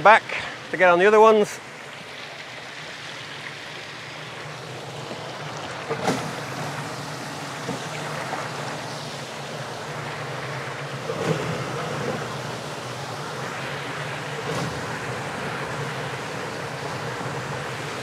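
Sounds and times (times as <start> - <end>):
low turbine hum: 0.0 - 18.0
water jets rushing: 0.0 - 18.0.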